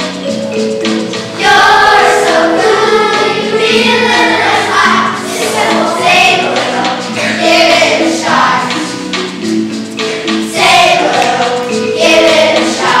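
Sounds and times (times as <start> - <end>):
children singing together: 1.1 - 9.2, 10.1 - 13.0.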